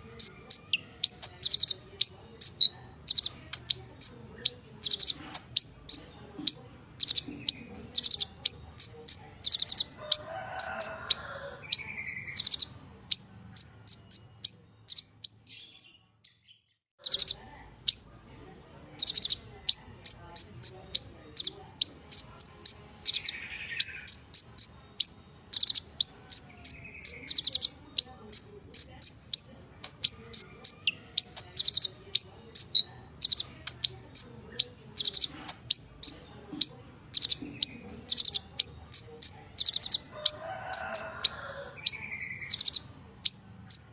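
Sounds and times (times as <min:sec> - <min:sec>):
bird singing high chirps: 0:00.0 - 0:18.1, 0:19.0 - 0:43.9.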